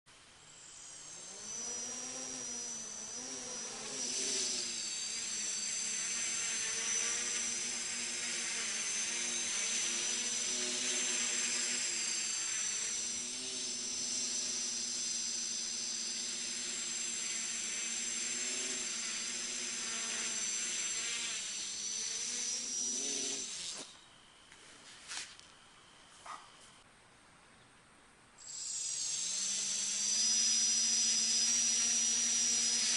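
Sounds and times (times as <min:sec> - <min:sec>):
high-pitched whine: 0:00.2 - 0:26.8
quadcopter motors buzzing: 0:00.3 - 0:26.8, 0:28.4 - 0:32.9.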